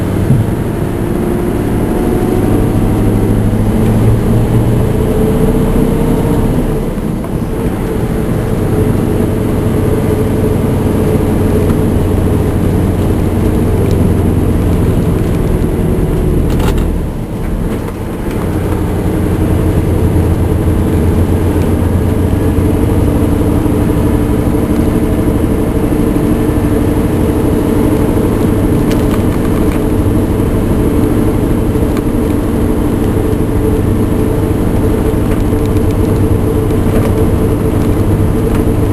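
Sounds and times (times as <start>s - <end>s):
truck diesel engine pulling hard: 0.0s - 38.9s.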